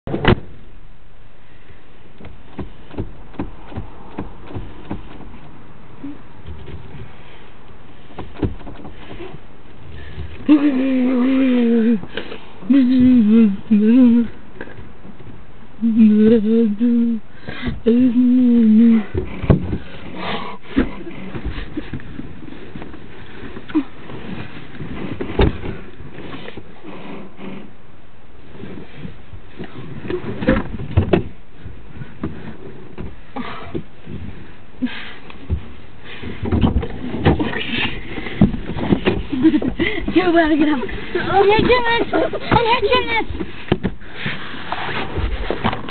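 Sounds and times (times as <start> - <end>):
car cabin noise: 0.1 - 45.9
rustling: 1.5 - 15.8, 18.7 - 45.9
soft low thumps: 2.1 - 26.8, 28.4 - 44.4.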